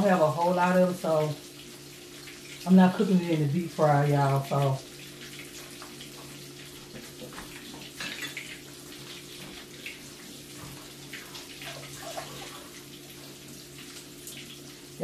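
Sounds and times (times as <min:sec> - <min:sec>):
splashes: 0:00.0 - 0:15.0
water running from a tap: 0:00.0 - 0:15.0.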